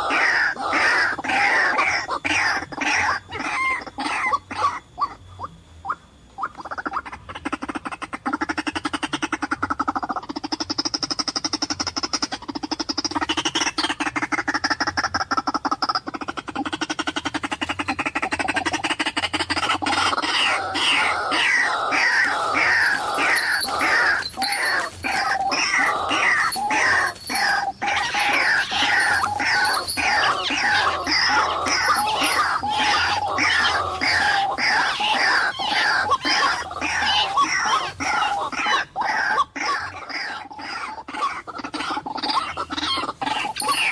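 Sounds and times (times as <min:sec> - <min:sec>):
waterhen buzzy pulsing croak: 0:00.0 - 0:43.9.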